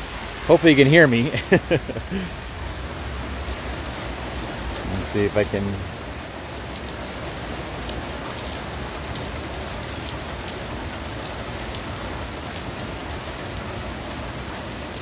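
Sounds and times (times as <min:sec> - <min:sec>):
rain on wet street: 0:00.0 - 0:15.0
raindrop ticks: 0:01.2 - 0:15.0.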